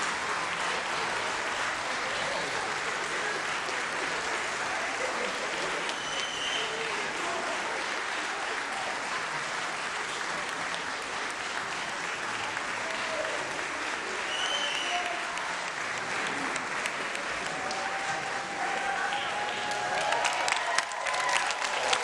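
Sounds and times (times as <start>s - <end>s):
high cheer: 0.0s - 9.6s, 12.5s - 22.0s
audience applauding: 0.0s - 22.0s
crowd voices: 0.0s - 22.0s.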